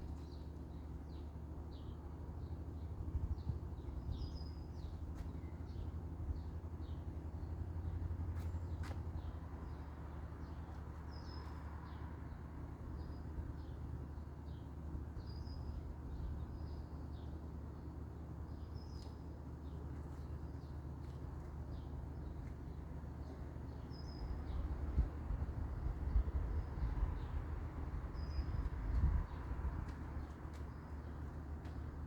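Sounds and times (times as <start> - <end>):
small birds chirping: 0.0 - 25.2, 25.9 - 32.0
low outdoor rumble: 0.0 - 32.0.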